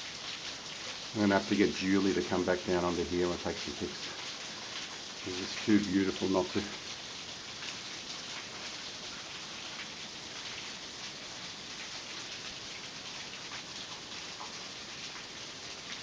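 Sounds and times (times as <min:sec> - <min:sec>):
water dripping onto rock: 0:00.0 - 0:16.0.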